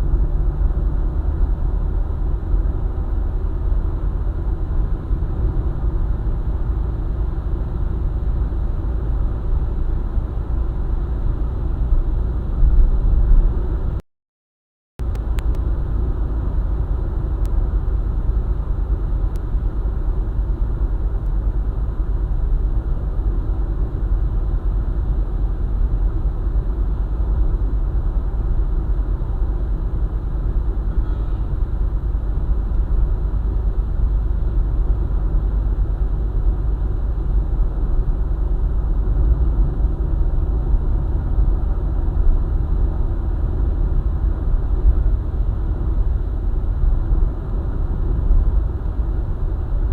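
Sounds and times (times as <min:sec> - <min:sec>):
car road and engine rumble: 0:00.0 - 0:14.0, 0:15.0 - 0:49.9.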